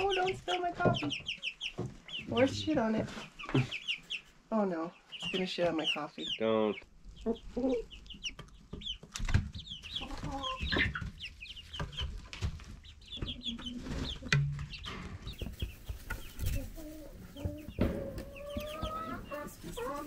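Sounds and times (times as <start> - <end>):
chickens clucking: 0.0 - 20.0
chicks cheeping: 0.0 - 20.0.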